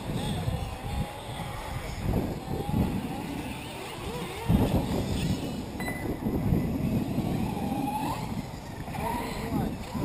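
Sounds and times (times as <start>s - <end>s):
rc car motors whining: 0.0s - 10.0s.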